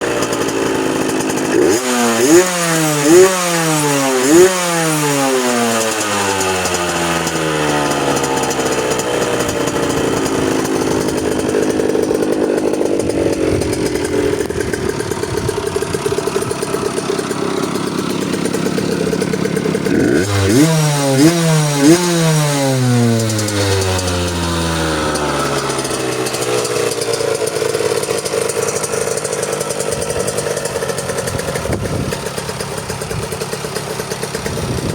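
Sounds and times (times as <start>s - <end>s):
two-stroke engine revving: 0.0s - 34.9s.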